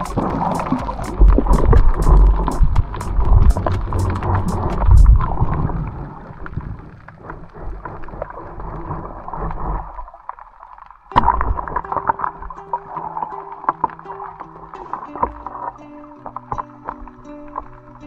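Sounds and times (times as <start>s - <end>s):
muffled water sloshing and gurgling: 0.0s - 18.0s.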